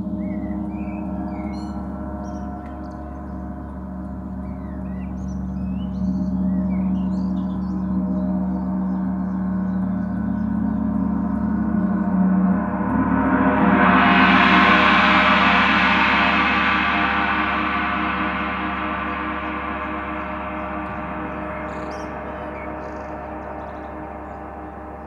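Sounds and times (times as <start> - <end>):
large gong ringing: 0.0 - 25.0.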